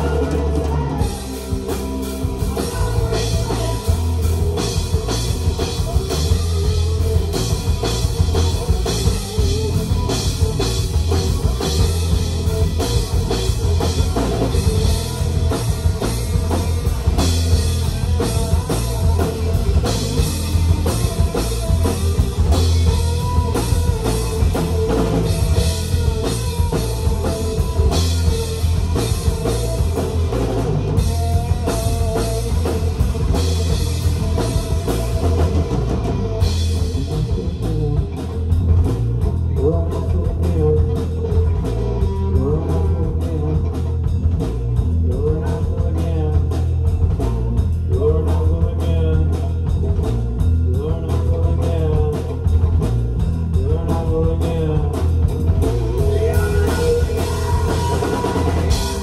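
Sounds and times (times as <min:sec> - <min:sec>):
drum kit beat: 0:00.0 - 0:59.0
live rock band playing: 0:00.0 - 0:59.0.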